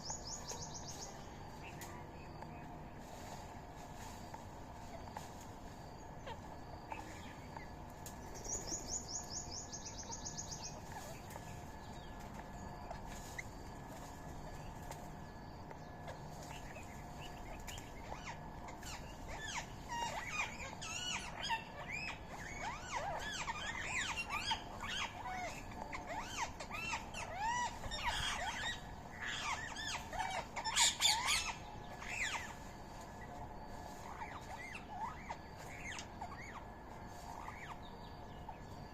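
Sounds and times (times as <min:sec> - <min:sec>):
high bird trill: 0:00.0 - 0:38.9
many birds chirping: 0:00.0 - 0:38.9.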